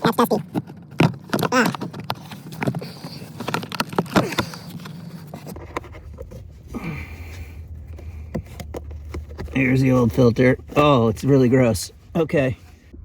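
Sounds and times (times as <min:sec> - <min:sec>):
plastic clicks and scraping: 0:00.1 - 0:06.6, 0:07.3 - 0:11.4.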